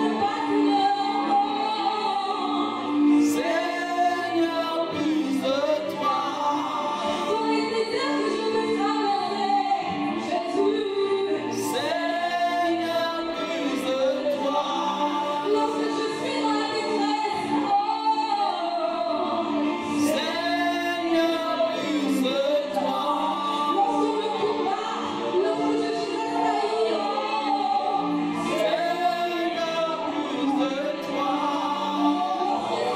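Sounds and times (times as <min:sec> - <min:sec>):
woman singing: 0:00.0 - 0:32.9.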